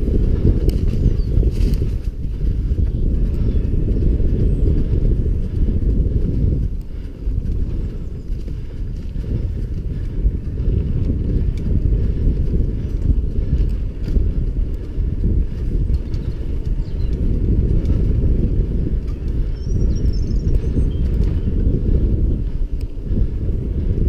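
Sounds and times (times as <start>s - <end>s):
bike clicks and rattles: 0.0s - 24.0s
low rumble of wind: 0.0s - 24.0s.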